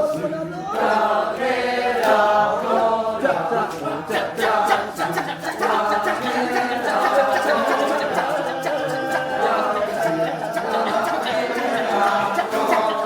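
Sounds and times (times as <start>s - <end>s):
group chanting and singing: 0.0s - 13.0s.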